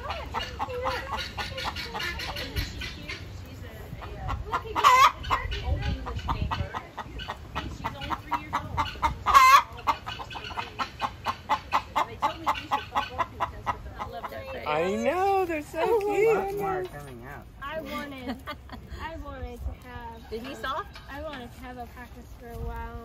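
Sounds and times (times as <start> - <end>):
hens clucking: 0.0 - 19.2, 19.8 - 22.2.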